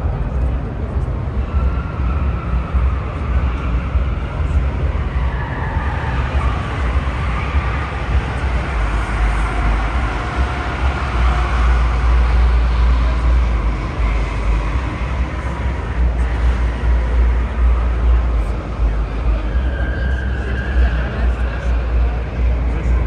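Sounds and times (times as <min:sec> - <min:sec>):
low rumble: 0:00.0 - 0:20.3
distant crowd noise: 0:00.0 - 0:23.0.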